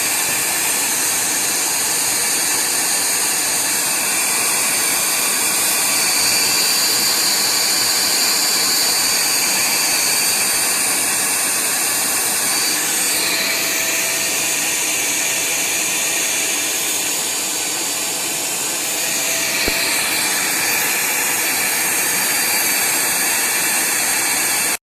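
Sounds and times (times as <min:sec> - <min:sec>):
vacuum cleaner whine: 0:00.0 - 0:24.8.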